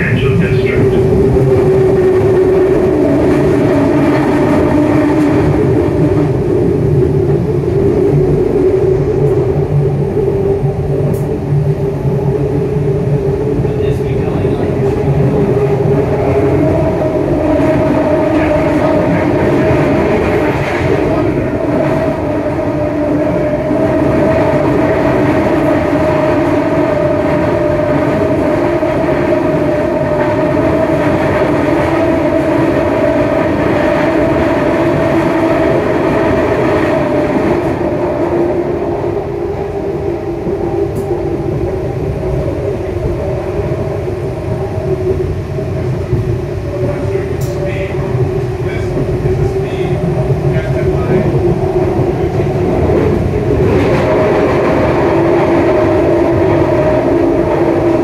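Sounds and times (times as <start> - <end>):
train car rolling rumble: 0.0 - 58.0.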